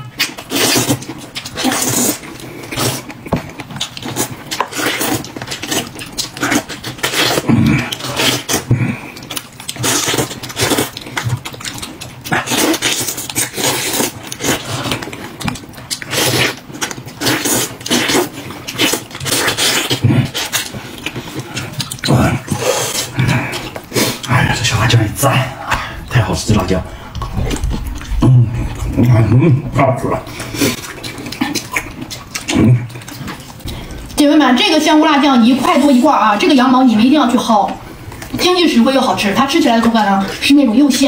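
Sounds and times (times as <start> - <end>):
chewing and mouth smacking: 0.0 - 35.9.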